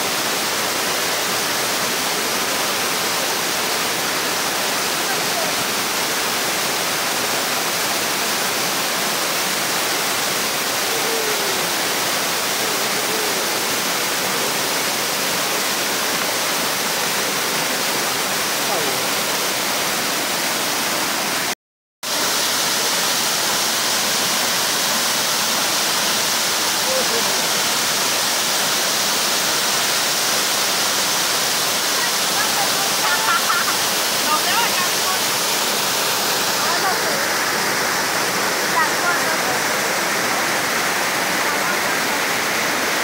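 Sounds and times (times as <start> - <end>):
stream rapids over rocks: 0.0 - 43.0
waterfall rushing: 0.0 - 43.0.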